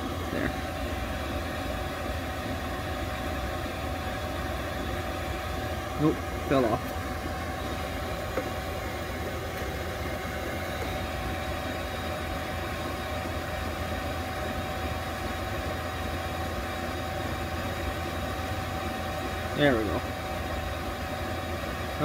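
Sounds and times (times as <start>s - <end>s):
air heater humming: 0.0s - 22.0s
thin steady whine: 0.0s - 22.0s.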